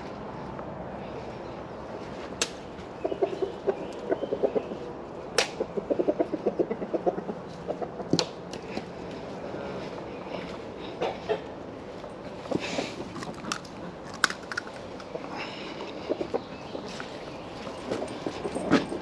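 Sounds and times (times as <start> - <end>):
hens clucking: 2.7 - 14.3, 14.9 - 19.0.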